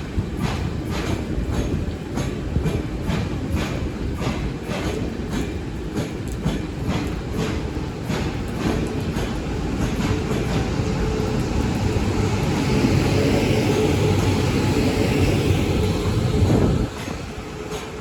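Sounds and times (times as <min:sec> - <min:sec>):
train rumbling on track: 0:00.0 - 0:18.0
wheels clacking over rail joints: 0:00.0 - 0:18.0.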